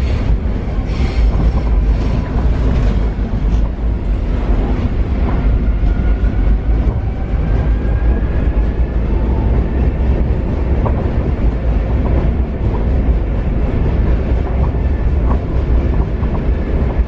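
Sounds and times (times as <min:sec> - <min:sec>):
train clicks: 0:00.0 - 0:17.0
train wheels rumbling on rail: 0:00.0 - 0:17.0.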